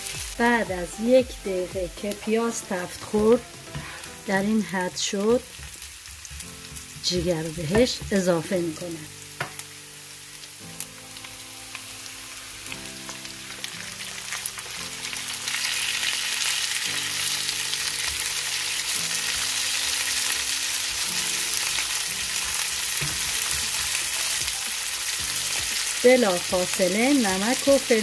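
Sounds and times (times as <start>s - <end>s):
food sizzling in hot oil: 0.0s - 28.0s
soft background music: 0.0s - 28.0s.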